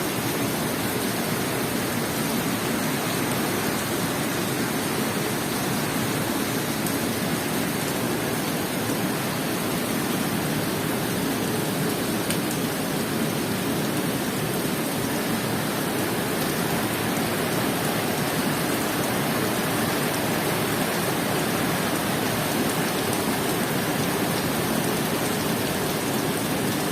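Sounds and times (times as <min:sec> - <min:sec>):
heavy rain falling: 0:00.0 - 0:26.9.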